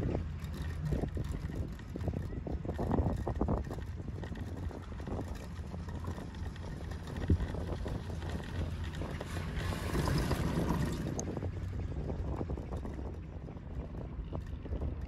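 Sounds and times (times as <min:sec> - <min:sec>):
chair rumbling past lift tower: 0:00.0 - 0:13.1
chairlift running hum: 0:00.0 - 0:15.0
wind on microphone: 0:00.0 - 0:15.0.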